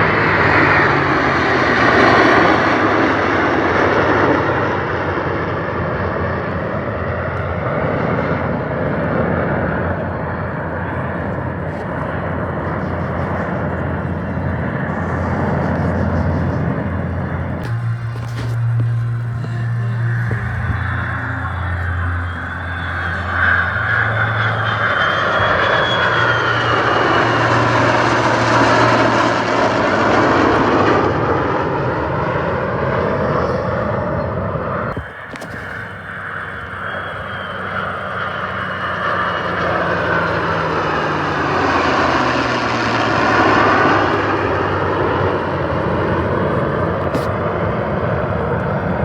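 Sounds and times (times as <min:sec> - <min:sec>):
aircraft engine flying past: 0:00.0 - 0:49.0.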